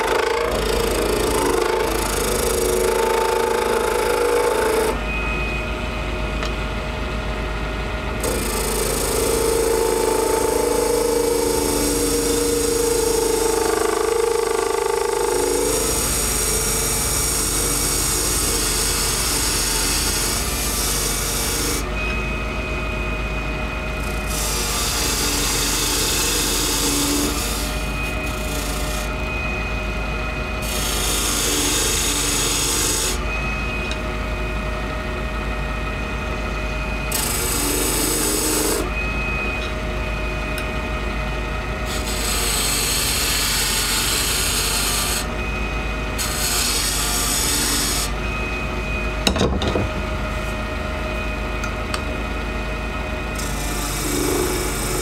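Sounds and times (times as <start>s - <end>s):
lathe motor whine: 0.0s - 55.0s.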